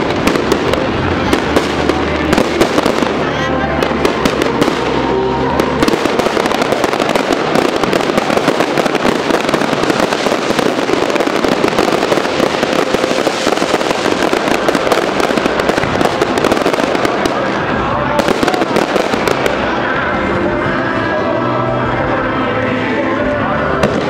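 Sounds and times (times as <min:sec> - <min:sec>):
dense crackling pops: 0:00.0 - 0:19.7.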